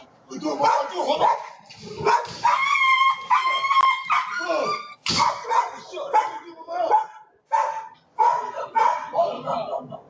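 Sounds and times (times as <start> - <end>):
dog barking and whining: 0.6 - 10.0.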